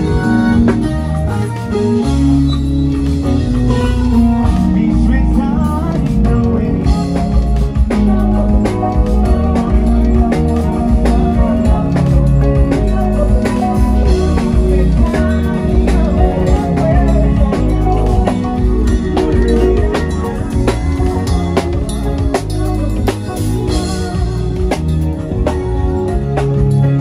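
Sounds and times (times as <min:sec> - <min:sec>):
band playing music: 0:00.0 - 0:27.0.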